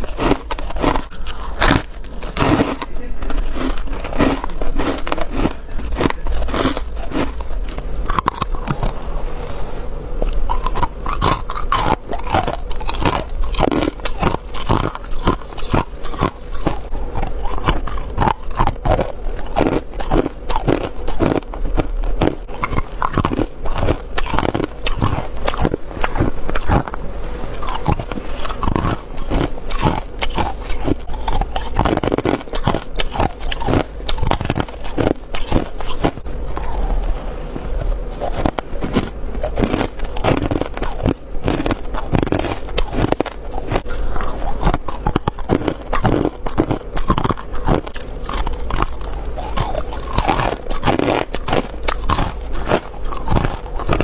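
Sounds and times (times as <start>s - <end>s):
crisp squeaky chewing crunches: 0.0s - 9.0s, 10.2s - 54.0s.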